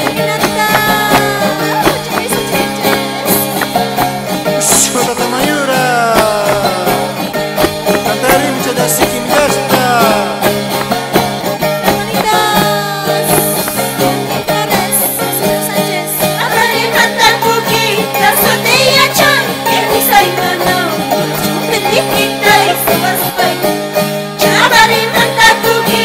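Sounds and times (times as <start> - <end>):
person singing: 0.0 - 3.7, 4.5 - 10.8, 11.6 - 23.6
charango strummed quickly: 0.0 - 26.0.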